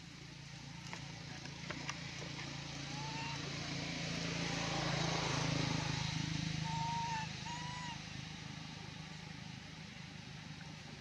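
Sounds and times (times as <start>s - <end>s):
vehicle engine passing by: 0.1s - 11.0s.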